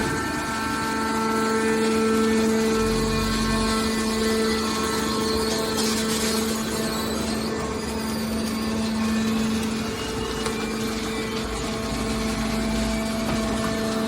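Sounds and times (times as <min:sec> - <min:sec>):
hydraulic power unit humming: 0:00.0 - 0:14.0.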